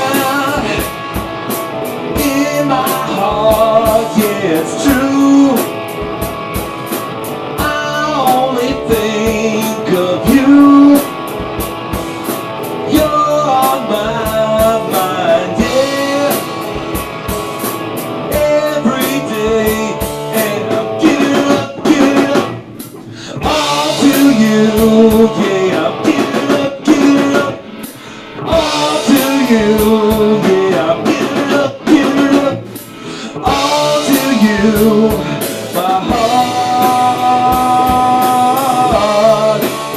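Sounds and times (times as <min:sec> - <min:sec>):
drum kit playing: 0:00.0 - 0:39.9
electric guitar: 0:00.0 - 0:39.9.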